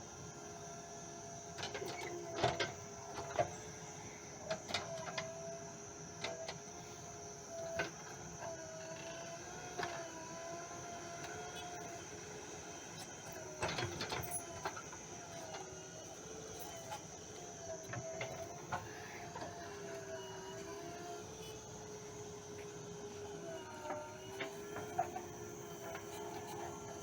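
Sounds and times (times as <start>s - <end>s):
backhoe engine and hydraulics: 0.0s - 27.0s.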